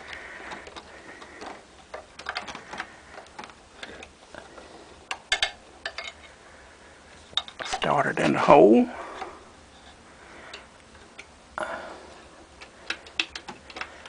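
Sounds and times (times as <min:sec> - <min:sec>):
wire clicking and rustling: 0:00.0 - 0:06.4, 0:07.1 - 0:11.4, 0:12.2 - 0:14.0.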